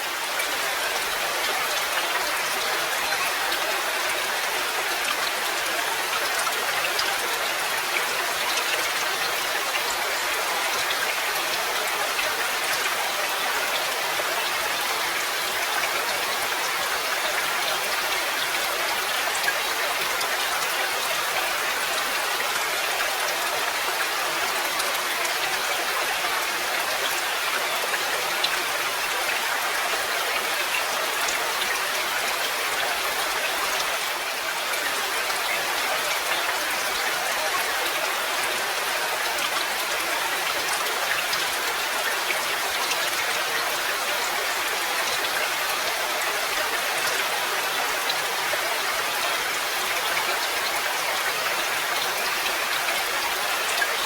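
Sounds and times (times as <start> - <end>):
steady rain hissing: 0.0 - 54.0.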